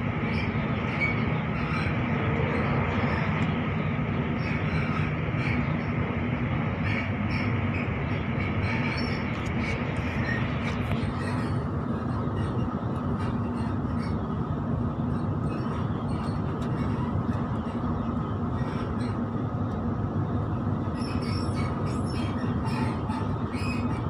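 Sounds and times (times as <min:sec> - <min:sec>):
train rumbling inside carriage: 0:00.0 - 0:24.0.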